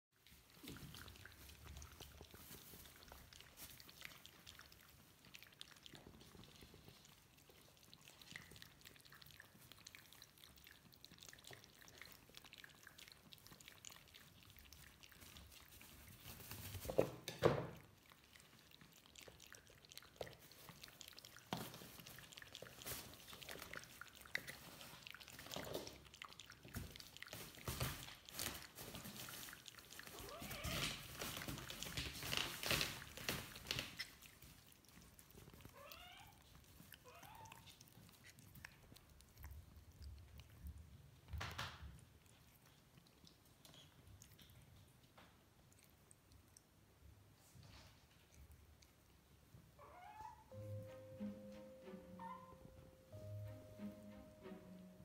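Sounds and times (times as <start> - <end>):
cats lapping water: 0.1 - 49.8.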